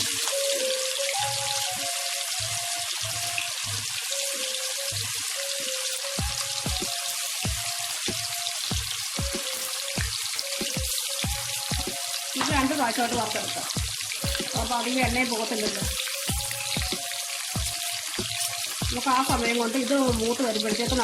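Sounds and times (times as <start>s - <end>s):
background music with steady beat: 0.0s - 21.0s
chicken sizzling in hot oil: 0.0s - 21.0s.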